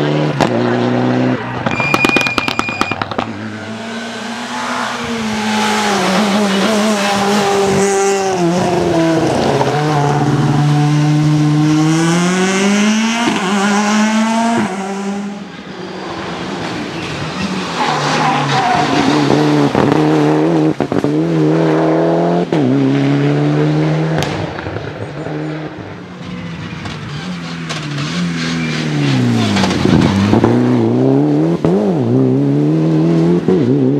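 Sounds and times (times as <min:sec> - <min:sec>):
rally car engine revving: 0:00.0 - 0:33.9
turbocharged car accelerating: 0:00.0 - 0:33.9.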